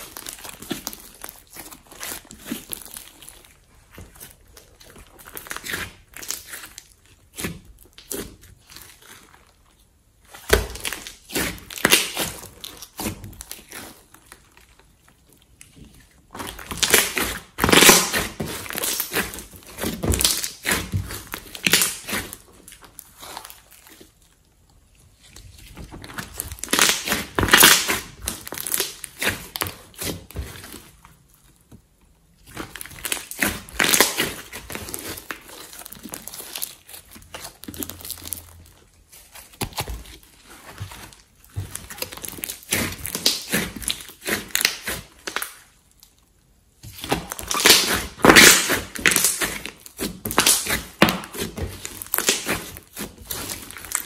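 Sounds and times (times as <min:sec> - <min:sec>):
slime squishing and popping: 0:00.0 - 0:09.5, 0:10.1 - 0:24.8, 0:26.0 - 0:54.0.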